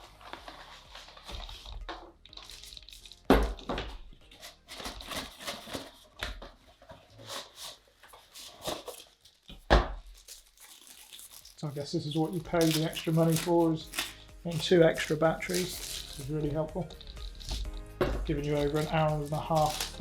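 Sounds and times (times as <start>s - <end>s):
plastic items clicking and rustling: 0.0s - 20.0s.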